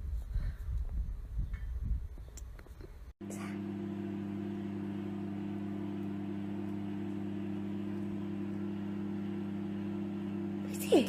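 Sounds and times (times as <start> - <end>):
low mechanical hum: 0.9 - 11.0.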